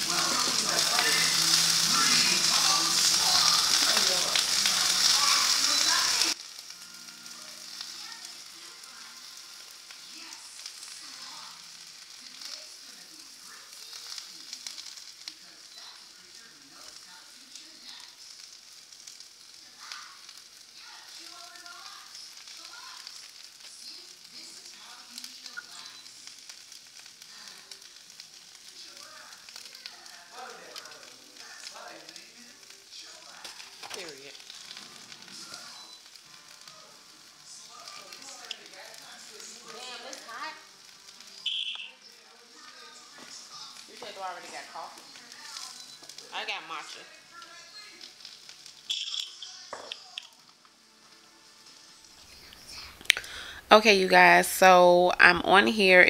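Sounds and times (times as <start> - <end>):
spinach sizzling in a frying pan: 0.0 - 56.0.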